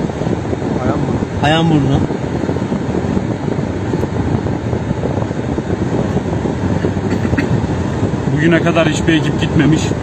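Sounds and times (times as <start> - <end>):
tyre noise on road: 0.0 - 10.0
vehicle engine: 0.0 - 10.0.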